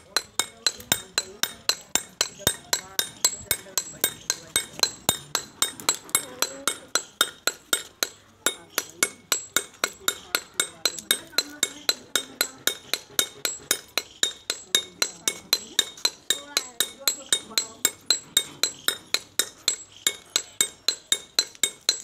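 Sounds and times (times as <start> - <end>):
hammer tapping stone slab: 0.0 - 22.0.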